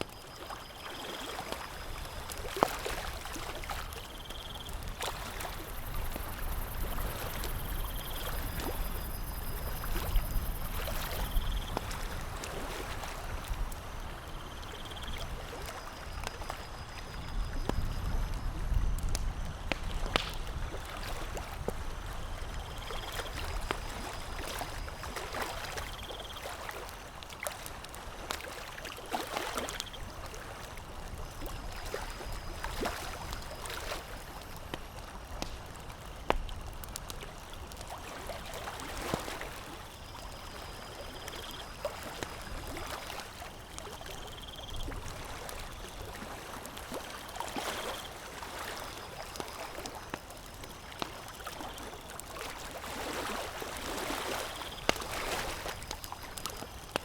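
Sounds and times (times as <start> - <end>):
water lapping: 0.1 - 18.4, 19.8 - 57.0
campfire crackling and popping: 1.2 - 12.5, 13.2 - 42.6, 43.2 - 57.0.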